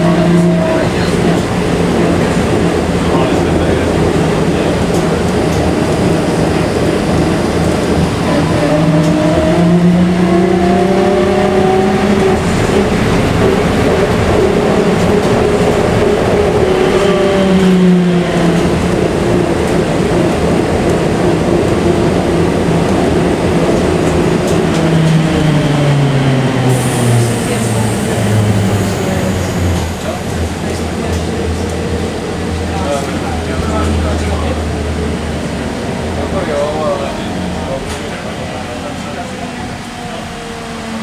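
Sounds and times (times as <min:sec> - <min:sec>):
road and body rumble: 0:00.0 - 0:41.0.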